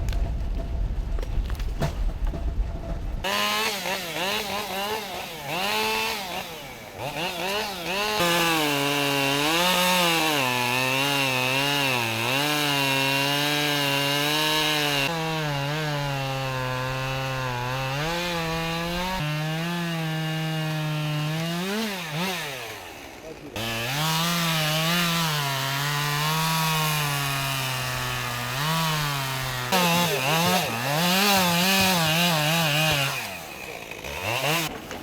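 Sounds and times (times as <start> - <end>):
chainsaw cutting wood: 3.2 - 35.0.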